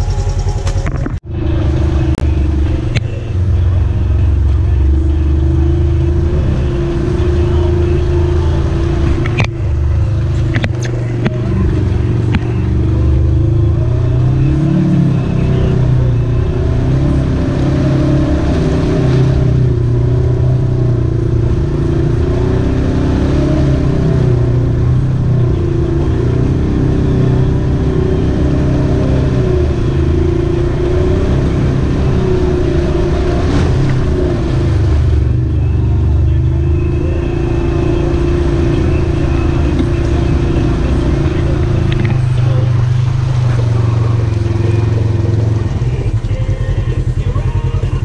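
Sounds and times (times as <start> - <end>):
engine running under load: 0.0 - 48.0.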